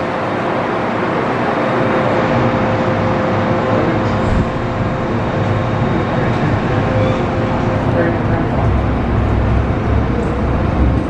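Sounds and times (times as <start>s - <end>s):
steady hum: 0.0s - 11.0s
train wheels rumbling on rail: 0.0s - 11.0s.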